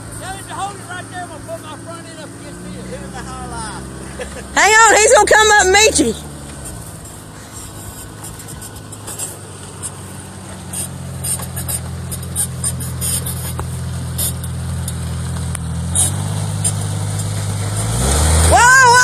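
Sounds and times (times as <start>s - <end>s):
suv engine running: 0.0s - 19.0s.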